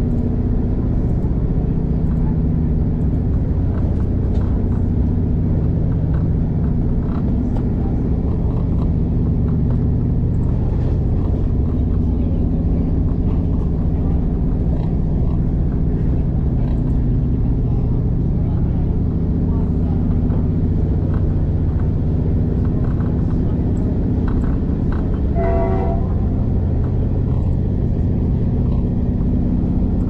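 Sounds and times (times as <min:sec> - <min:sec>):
train rumbling inside carriage: 0:00.0 - 0:30.0.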